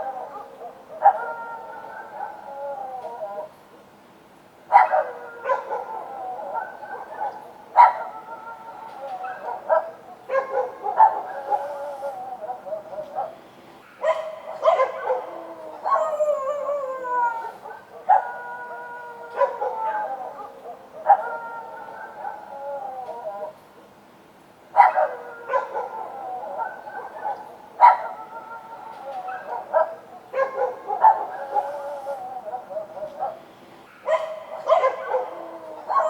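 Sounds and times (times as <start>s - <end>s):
dogs barking: 0.0s - 2.5s, 4.7s - 16.8s, 17.4s - 22.5s, 24.7s - 36.0s
dogs howling: 0.0s - 3.6s, 4.7s - 13.4s, 14.0s - 23.6s, 24.8s - 36.0s.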